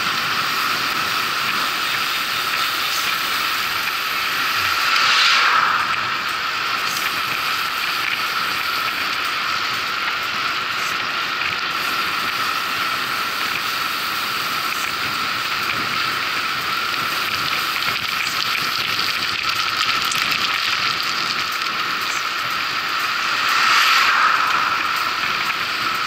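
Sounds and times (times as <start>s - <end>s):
bicycle tyres hissing on road: 0.0s - 26.0s
faint steady whine: 0.0s - 26.0s.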